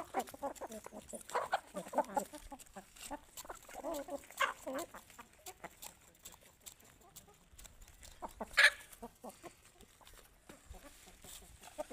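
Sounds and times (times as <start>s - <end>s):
chickens clucking softly: 0.0s - 11.9s.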